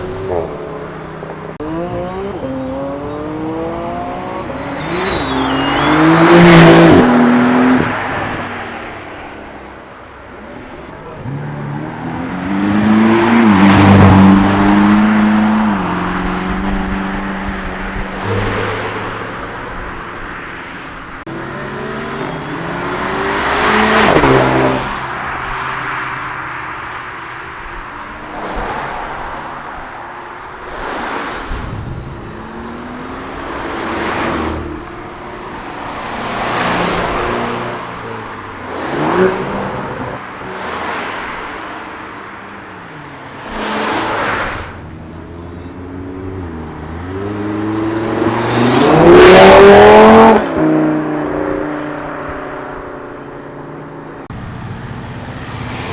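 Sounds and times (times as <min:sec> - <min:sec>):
cars driving past revving: 0:00.0 - 0:09.4, 0:11.1 - 0:55.9.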